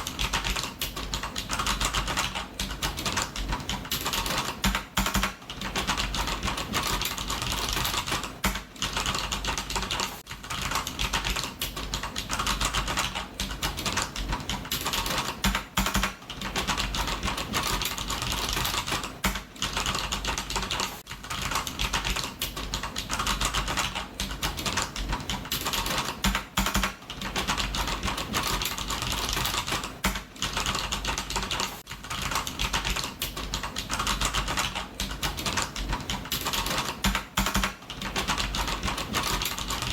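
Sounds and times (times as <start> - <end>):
fast typing on computer keyboard: 0.0 - 39.9.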